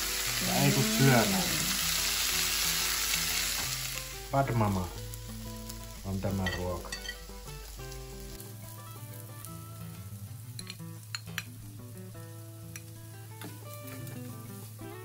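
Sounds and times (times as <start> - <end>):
background music: 0.0 - 15.0
noodles sizzling in a frying pan: 0.0 - 15.0.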